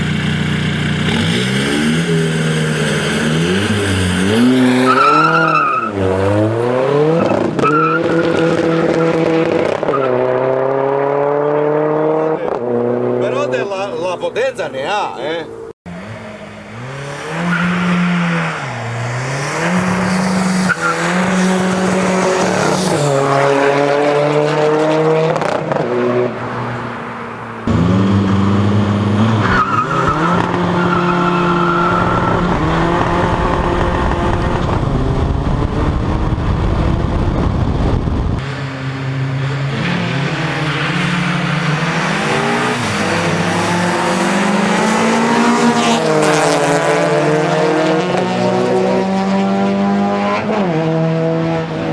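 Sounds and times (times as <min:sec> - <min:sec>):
car engine accelerating through gears: 0:00.0 - 0:13.7, 0:15.5 - 0:51.9.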